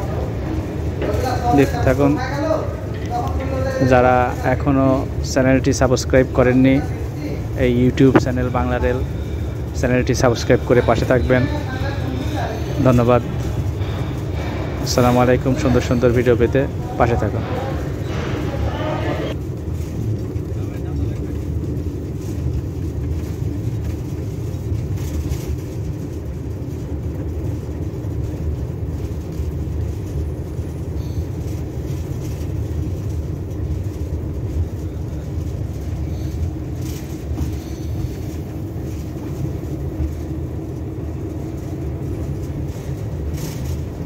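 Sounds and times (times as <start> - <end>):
locomotive engine drone: 0.0 - 44.0
moving train rumble: 0.0 - 44.0.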